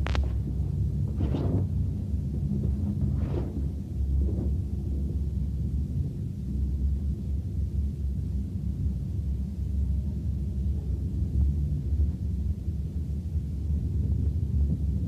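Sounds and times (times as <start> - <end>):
muffled low rumble: 0.0 - 15.0.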